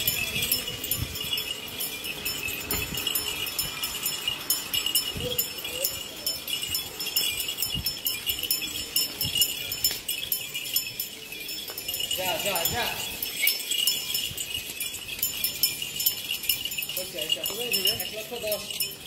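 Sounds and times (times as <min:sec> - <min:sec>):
cow ornaments jingling: 0:00.0 - 0:19.0.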